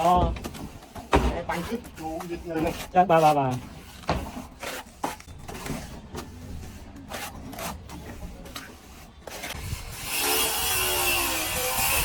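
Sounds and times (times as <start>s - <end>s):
trowel scraping plaster: 0.0s - 12.0s.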